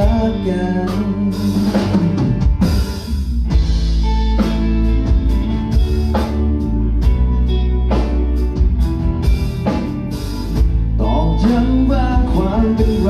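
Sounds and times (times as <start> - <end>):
live band playing pop music: 0.0 - 13.0.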